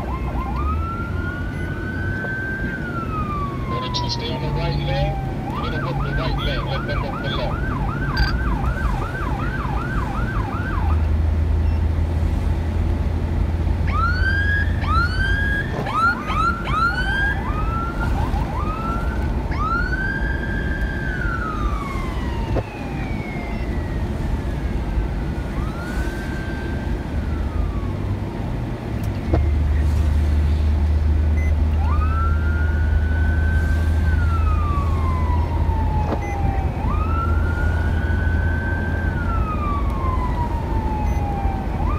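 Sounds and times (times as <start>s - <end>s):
police siren: 0.0s - 12.4s, 13.7s - 30.0s, 31.3s - 41.9s
engine and road drone: 0.0s - 41.9s.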